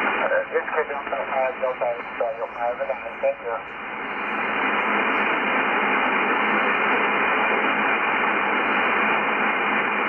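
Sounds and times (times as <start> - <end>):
muffled radio receiver hiss: 0.0 - 10.0.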